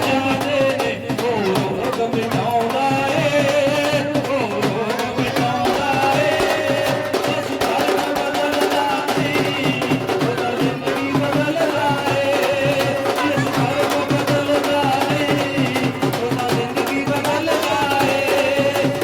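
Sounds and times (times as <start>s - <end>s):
instrumental worship music: 0.0s - 19.0s
steady drum beat: 0.0s - 19.0s.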